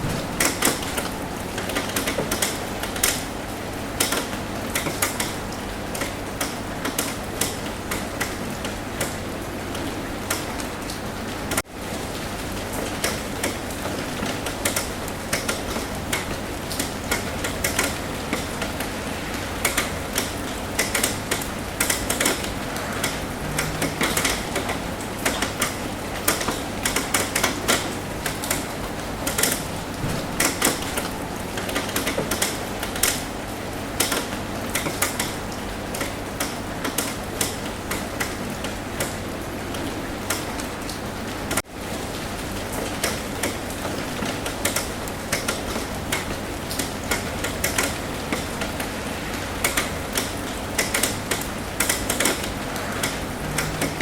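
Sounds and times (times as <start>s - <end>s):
rain tapping on a roof: 0.0s - 54.0s.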